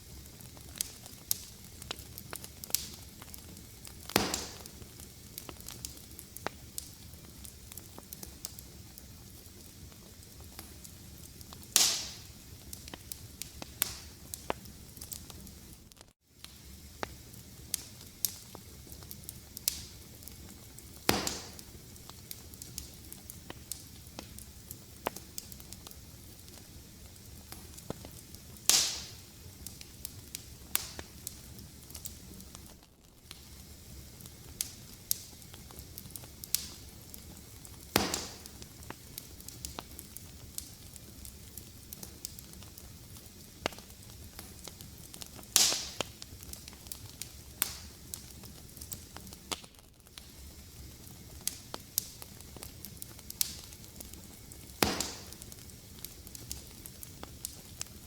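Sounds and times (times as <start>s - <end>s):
fire pops: 0.0s - 58.0s
wood fire crackling: 0.0s - 58.0s.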